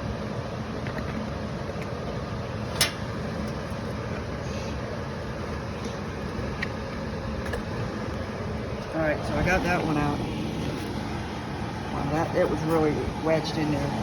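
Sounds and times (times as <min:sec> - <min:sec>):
furnace blower motor running: 0:00.0 - 0:14.0
air rushing through ducts: 0:02.3 - 0:14.0.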